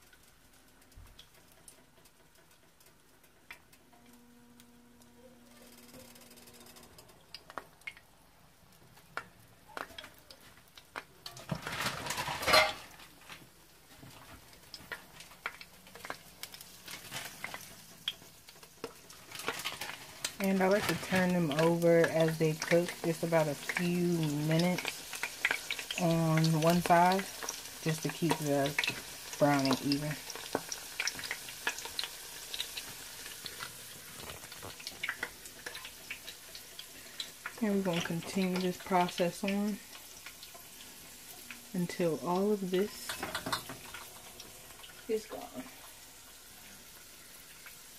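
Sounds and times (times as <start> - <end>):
food frying in hot oil: 0.0 - 5.0, 5.6 - 47.9.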